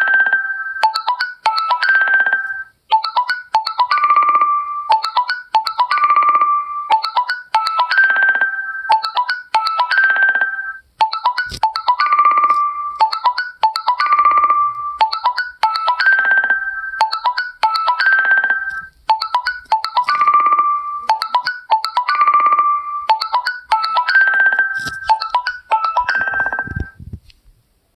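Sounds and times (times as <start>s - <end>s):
ringtone melody: 0.0s - 27.0s.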